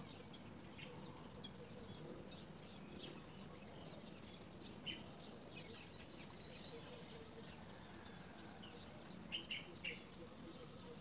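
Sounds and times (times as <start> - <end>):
faint bird chirps: 0.0 - 11.0
steady outdoor hiss: 0.0 - 11.0.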